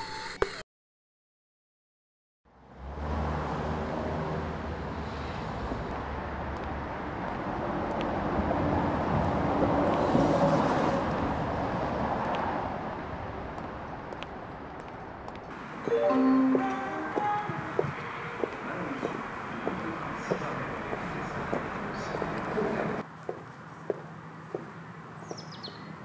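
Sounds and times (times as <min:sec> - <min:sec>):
road noise: 0:02.5 - 0:26.0.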